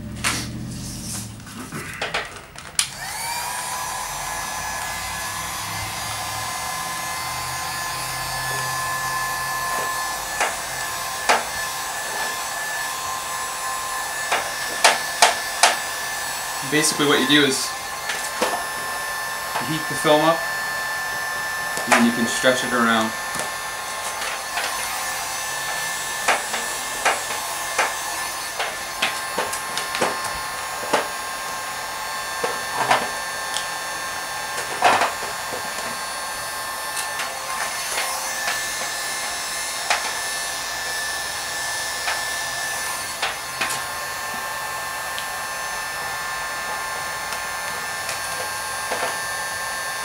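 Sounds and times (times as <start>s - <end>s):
heat gun hissing and whining: 0.2s - 50.0s.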